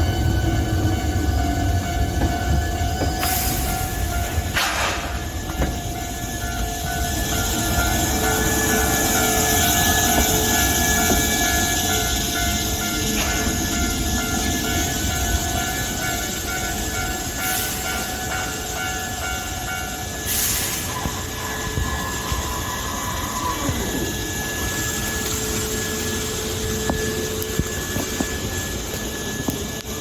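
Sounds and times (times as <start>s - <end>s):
electric train rumbling and whining: 0.0s - 30.0s.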